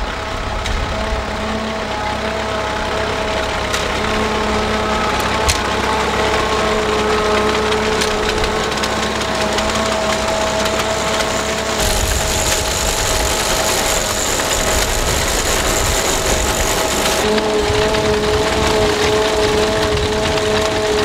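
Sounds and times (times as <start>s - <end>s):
reaper-binder clattering: 0.0s - 21.0s
rough rumble and hiss: 0.0s - 21.0s
tractor engine running: 0.0s - 21.0s.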